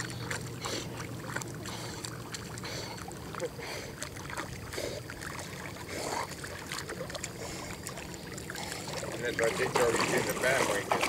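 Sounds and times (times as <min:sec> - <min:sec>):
water splashing at shoreline: 0:00.0 - 0:11.0.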